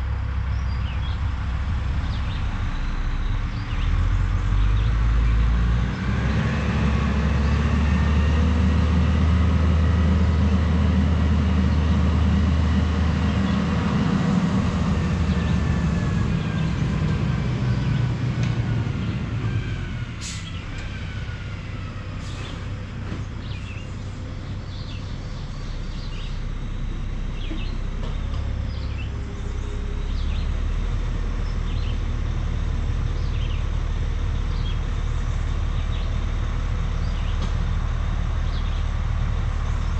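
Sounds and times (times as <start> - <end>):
truck engine running with whine: 0.0 - 39.9.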